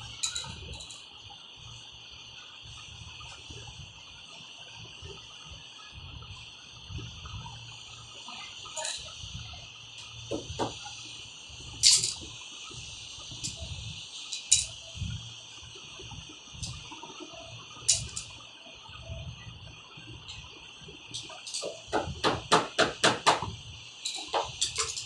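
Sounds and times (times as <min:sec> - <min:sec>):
steady high hiss: 0:00.0 - 0:03.4, 0:07.8 - 0:25.0.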